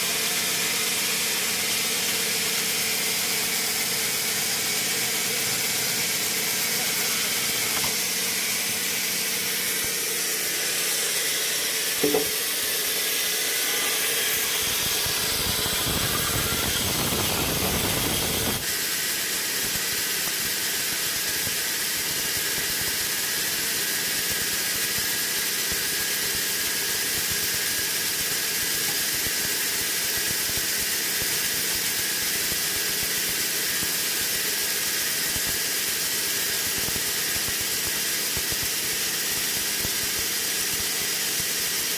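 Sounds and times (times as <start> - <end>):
sawmill machinery hissing: 0.0 - 41.9.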